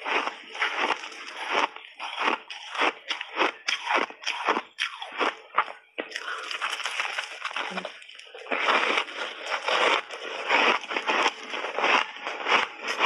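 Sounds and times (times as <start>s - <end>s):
crunching ice being chewed: 0.0s - 13.0s.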